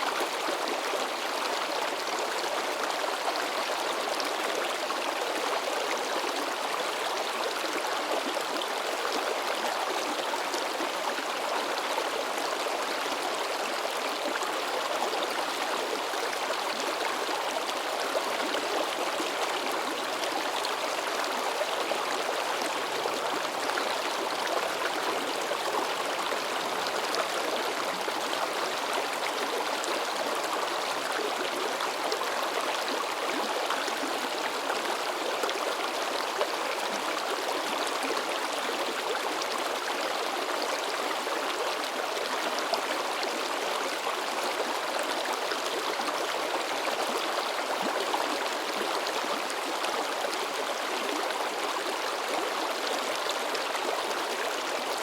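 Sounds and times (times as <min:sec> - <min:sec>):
river babbling and splashing: 0:00.0 - 0:55.0.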